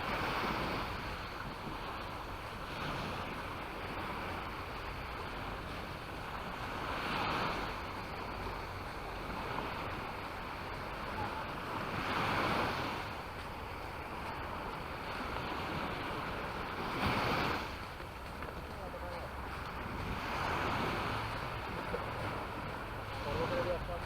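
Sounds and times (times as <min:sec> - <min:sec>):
sea waves breaking on beach: 0:00.0 - 0:24.0.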